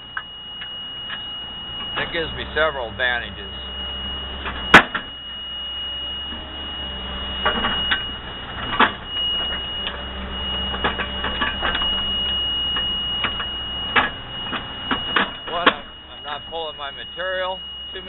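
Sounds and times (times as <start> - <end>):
excavator engine drone: 0.0 - 18.0.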